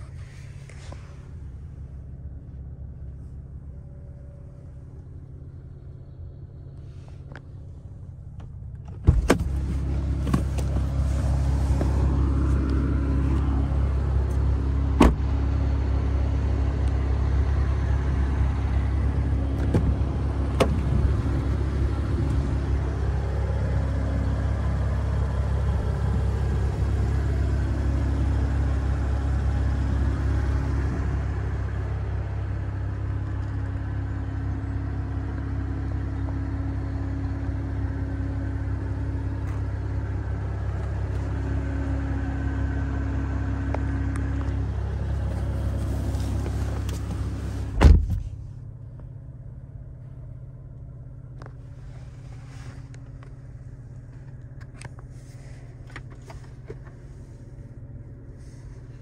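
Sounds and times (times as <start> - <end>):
car engine starting and rumbling: 0.0 - 59.0.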